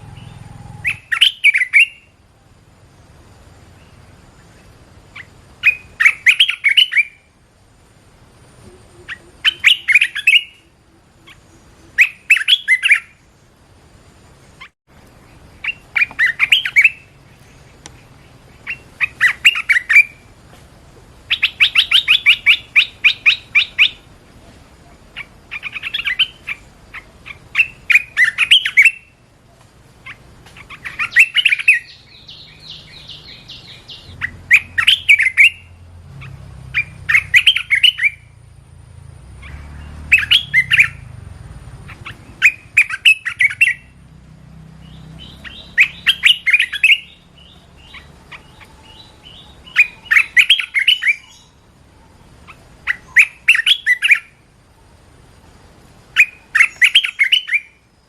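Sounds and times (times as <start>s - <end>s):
bulbul singing: 0.0s - 7.4s, 8.3s - 58.0s.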